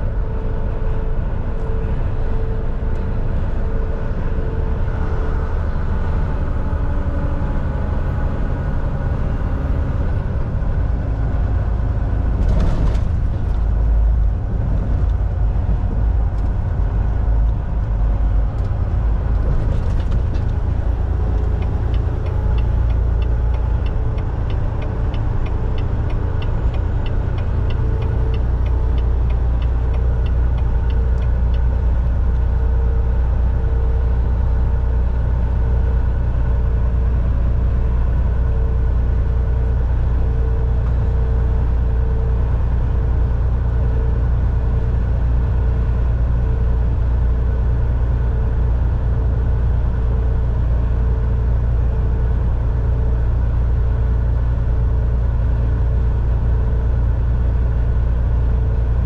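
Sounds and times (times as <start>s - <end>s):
truck engine and road drone: 0.0s - 59.0s.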